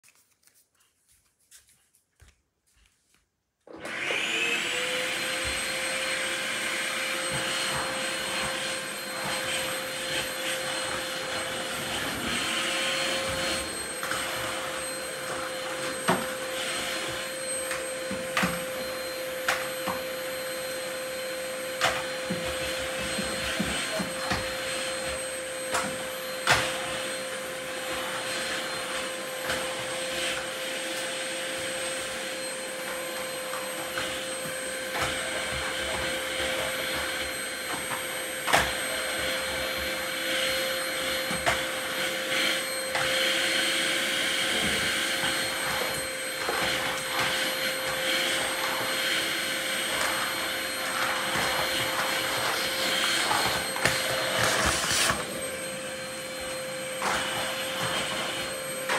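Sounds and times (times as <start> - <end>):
vacuum cleaner running: 3.7 - 58.9.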